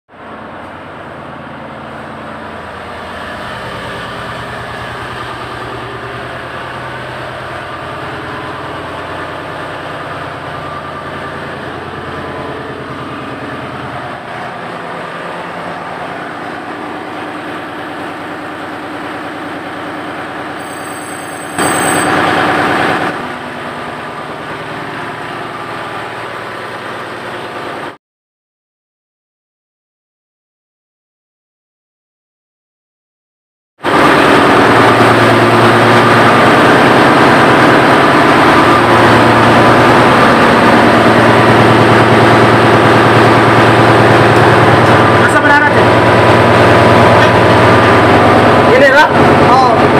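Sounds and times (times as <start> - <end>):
engine-room machinery drone: 0.1 - 28.0, 33.8 - 49.9
loud burst of noise: 0.9 - 28.0, 33.8 - 49.9.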